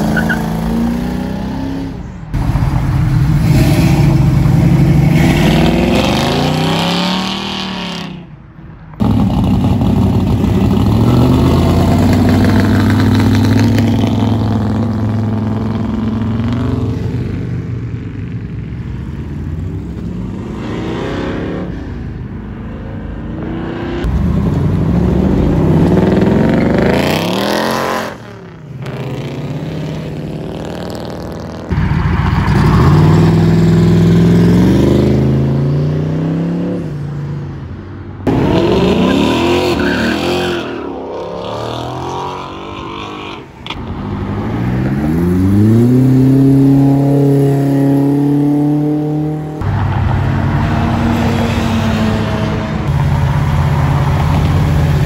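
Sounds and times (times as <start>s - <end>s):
car engines revving accelerating: 0.0s - 8.3s, 9.0s - 18.5s, 19.2s - 37.0s, 38.2s - 55.0s.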